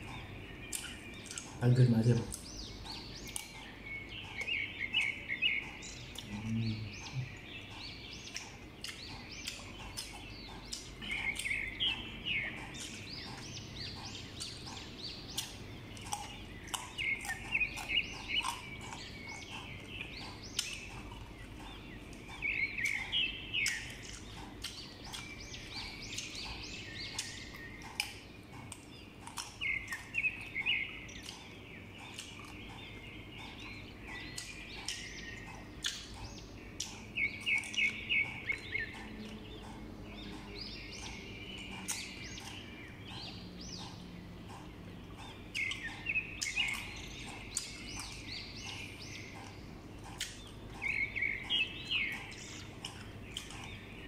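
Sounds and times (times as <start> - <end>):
bird chirping: 0.0 - 54.0
person chewing crunchy fruit: 0.0 - 54.0.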